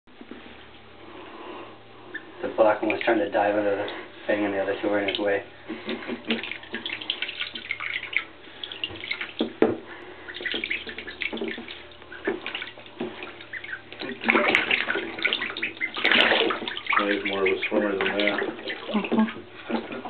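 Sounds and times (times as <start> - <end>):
ducklings splashing in water: 2.1 - 20.0.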